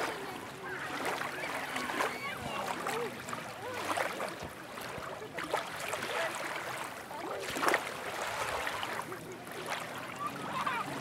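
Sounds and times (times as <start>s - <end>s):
distant crowd chatter and shouts: 0.0s - 11.0s
surf splashing at shoreline: 0.0s - 11.0s.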